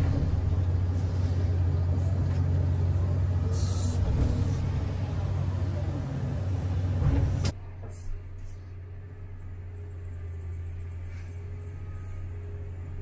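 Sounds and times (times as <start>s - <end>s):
excavator engine droning: 0.0s - 13.0s.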